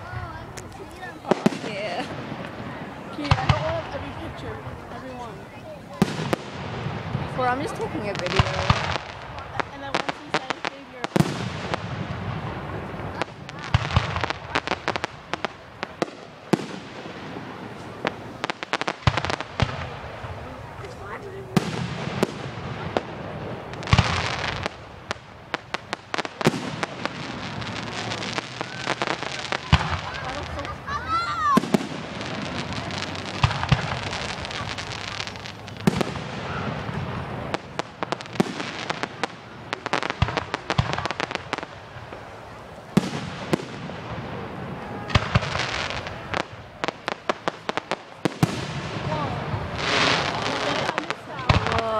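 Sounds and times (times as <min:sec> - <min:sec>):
fireworks cracking and banging: 0:00.0 - 0:51.9.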